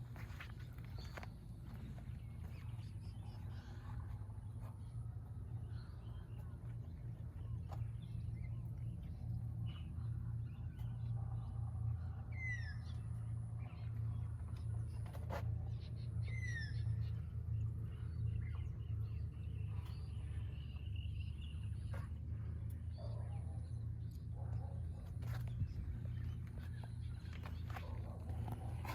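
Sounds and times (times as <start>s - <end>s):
birds chirping: 0.0s - 28.9s
steady low hum: 0.0s - 28.9s.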